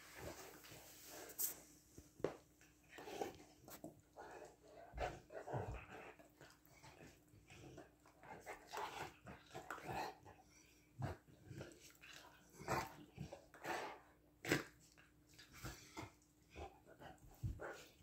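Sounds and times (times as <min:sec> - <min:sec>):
dogs play-fighting: 0:02.2 - 0:18.0.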